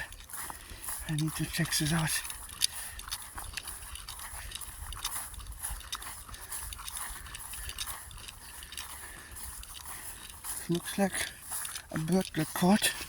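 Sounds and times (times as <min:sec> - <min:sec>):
footsteps on dry ground: 0:00.0 - 0:13.0.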